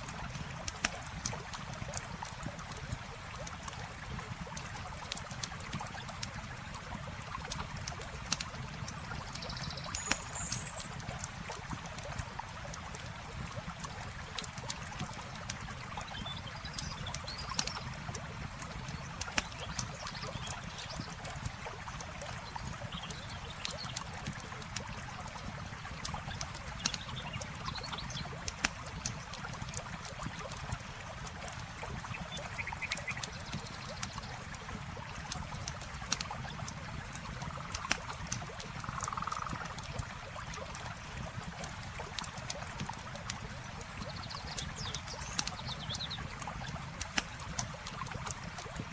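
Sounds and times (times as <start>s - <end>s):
campfire crackling and popping: 0.0s - 48.9s
flowing water: 0.0s - 48.9s.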